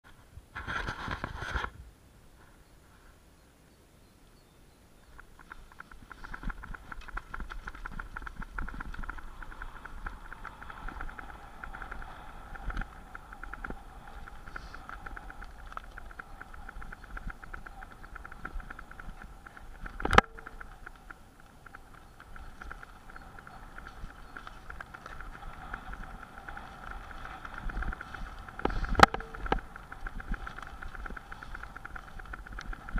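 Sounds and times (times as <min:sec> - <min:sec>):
wind rumble on microphone: 0:04.4 - 0:32.9
bike rattling over bumps: 0:05.1 - 0:32.9
bicycle freewheel ticking: 0:05.4 - 0:32.9.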